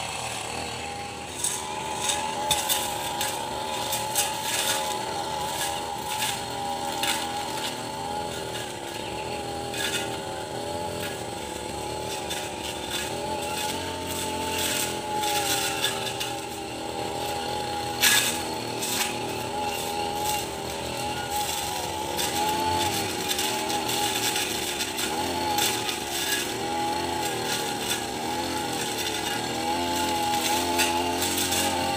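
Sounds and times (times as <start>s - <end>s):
brush cutter engine whining: 0.0s - 31.9s.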